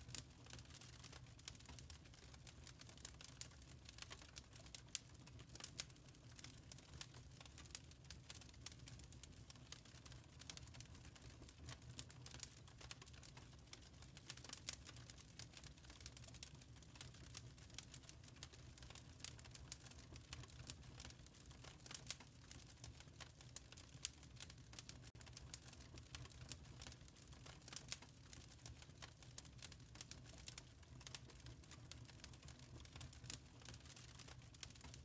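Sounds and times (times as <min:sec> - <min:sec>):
fire crackling in a fireplace: 0:00.0 - 0:35.0.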